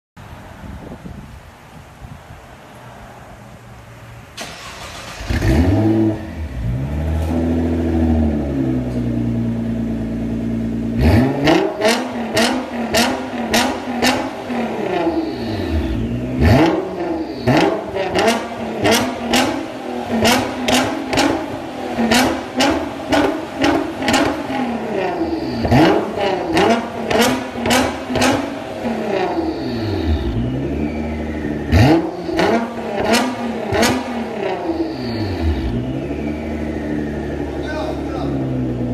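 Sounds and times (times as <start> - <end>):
car engine starting and idling: 3.1 - 38.9
exhaust cracks: 4.3 - 38.9
engine revving: 4.4 - 38.9.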